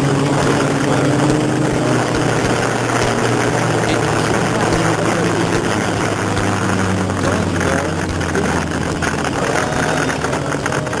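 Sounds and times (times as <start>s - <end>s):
motorcycle engine at high revs: 0.0s - 11.0s
wind rushing over microphone: 0.0s - 11.0s.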